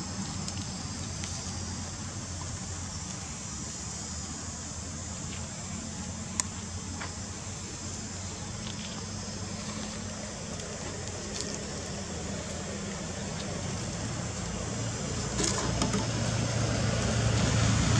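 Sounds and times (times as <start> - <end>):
high insect-like hiss: 0.0 - 17.9
low motor hum: 0.0 - 17.9.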